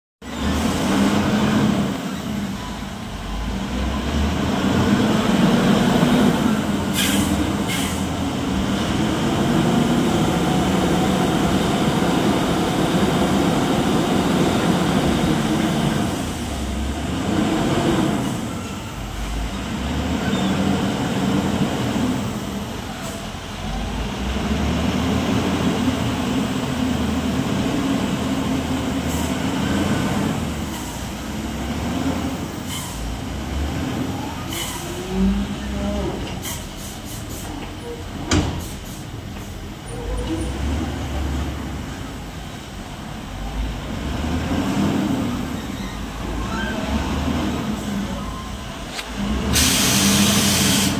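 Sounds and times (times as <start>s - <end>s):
loader diesel engine revving: 0.2s - 50.9s.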